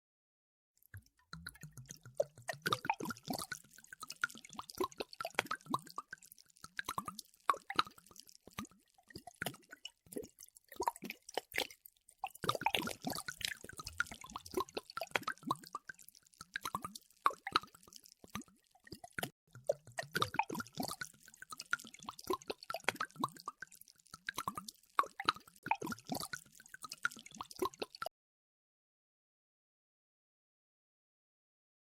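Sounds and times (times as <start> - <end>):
water pouring from glass bottle: 0.8 - 28.1.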